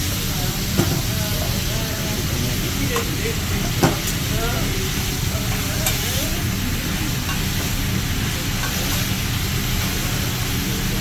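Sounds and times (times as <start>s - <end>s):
background chatter: 0.0s - 11.0s
food sizzling on a griddle: 0.0s - 11.0s
restaurant hum: 0.0s - 11.0s.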